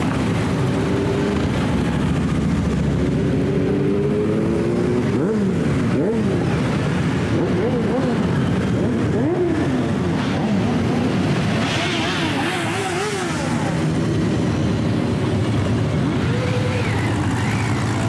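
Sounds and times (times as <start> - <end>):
motorcycles riding past: 0.0 - 18.0.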